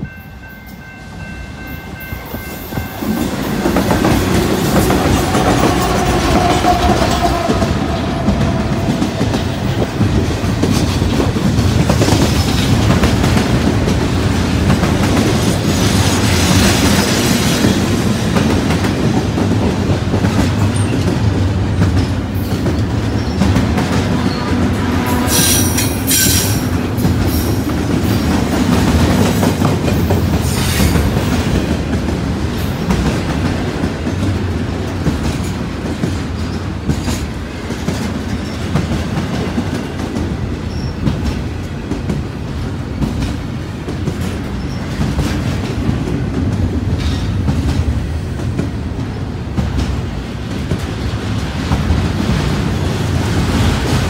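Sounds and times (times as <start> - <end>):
train wheels rumbling on rail: 0.0 - 54.0
clickety-clack over rail joints: 2.1 - 54.0.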